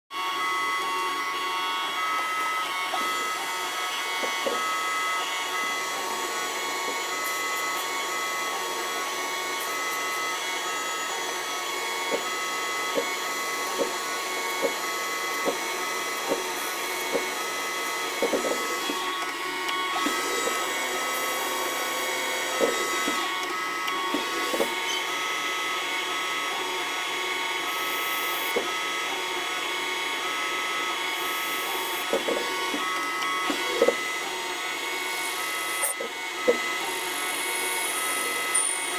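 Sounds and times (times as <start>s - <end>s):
lathe whining: 0.1s - 38.9s.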